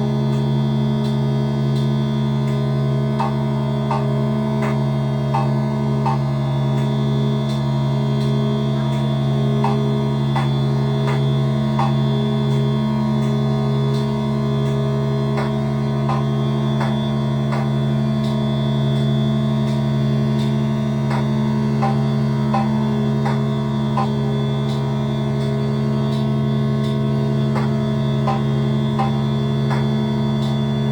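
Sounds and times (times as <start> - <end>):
synthesizer low drone: 0.0 - 30.9.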